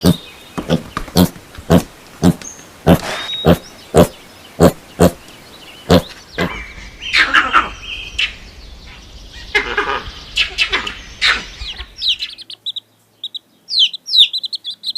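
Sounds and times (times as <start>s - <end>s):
chirping bird calls: 0.0s - 14.9s.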